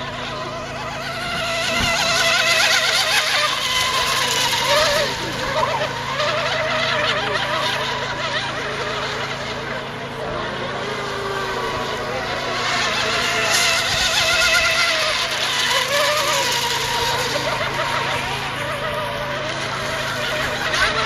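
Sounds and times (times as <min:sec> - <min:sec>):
model boat engines whining: 0:00.0 - 0:21.0.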